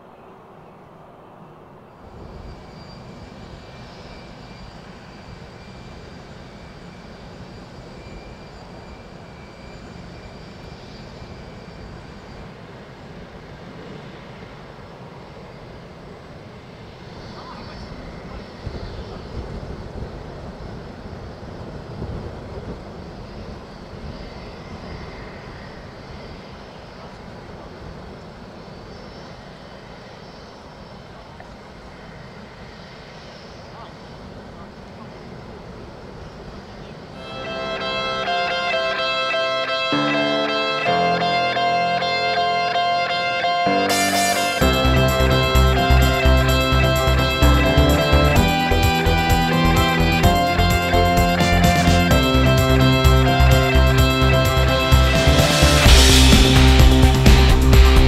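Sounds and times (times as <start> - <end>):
aircraft engine rushing: 0.0 - 58.0
jet turbine rumble and whine: 0.0 - 58.0.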